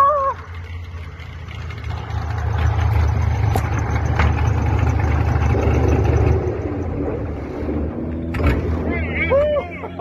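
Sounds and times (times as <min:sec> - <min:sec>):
airboat engine and propeller rumbling: 0:00.0 - 0:10.0.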